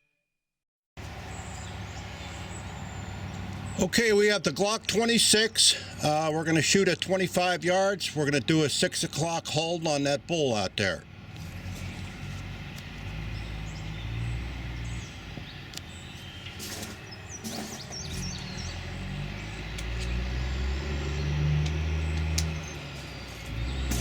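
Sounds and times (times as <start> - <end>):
vehicle engine rumble: 1.0 - 24.0.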